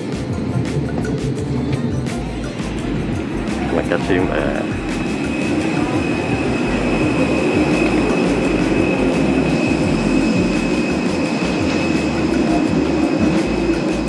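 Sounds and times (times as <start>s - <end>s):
machinery drone with high whine: 0.0s - 14.0s.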